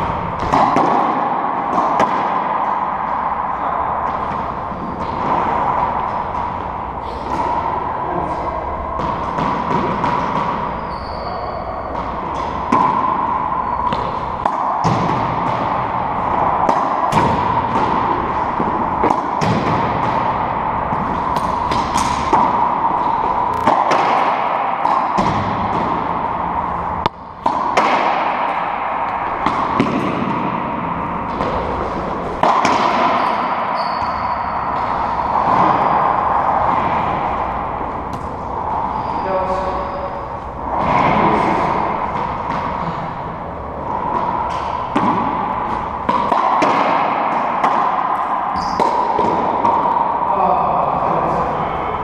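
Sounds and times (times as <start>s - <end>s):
racquetball hits echoing: 0.0s - 52.0s
steady background hum: 0.0s - 52.0s.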